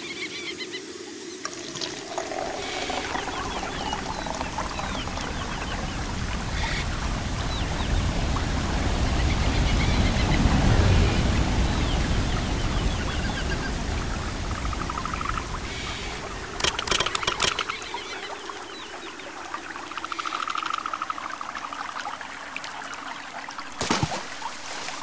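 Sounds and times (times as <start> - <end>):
birds chirping: 0.0 - 21.0
running water: 0.9 - 25.0.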